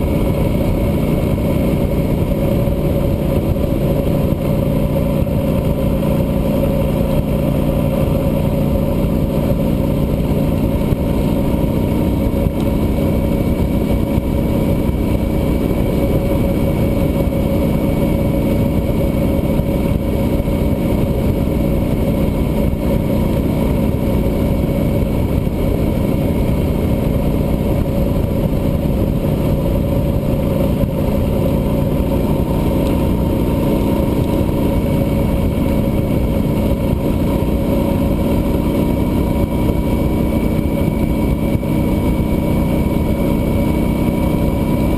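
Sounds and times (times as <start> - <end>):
motorcycle engine cruising: 0.0 - 44.9
road noise: 0.0 - 44.9
wind noise: 0.0 - 44.9.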